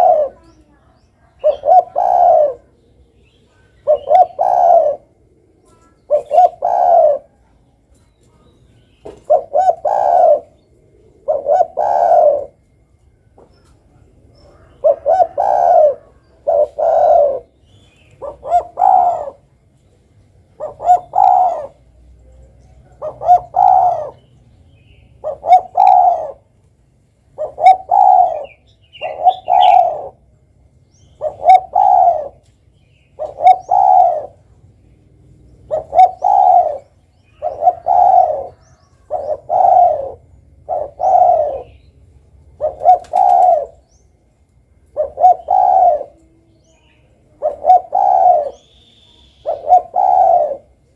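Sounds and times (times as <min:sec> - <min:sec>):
dove cooing: 0:00.0 - 0:08.0, 0:09.0 - 0:19.8, 0:20.4 - 0:24.4, 0:25.0 - 0:26.6, 0:27.2 - 0:44.1, 0:44.8 - 0:50.9.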